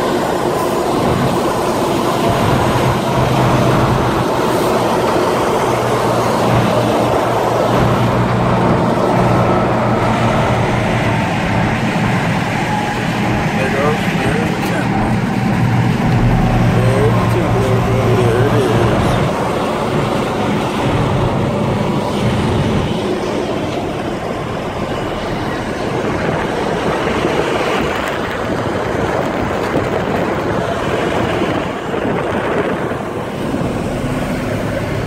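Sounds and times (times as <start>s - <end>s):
low engine hum: 0.0s - 35.0s
truck wind and road noise: 0.0s - 35.0s.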